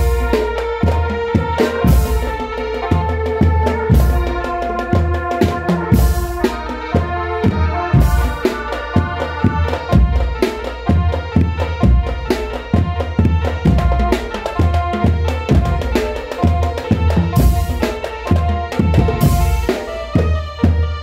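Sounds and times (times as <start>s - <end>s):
hand drum rhythm: 0.0s - 21.0s
heavy drum strokes: 0.0s - 21.0s.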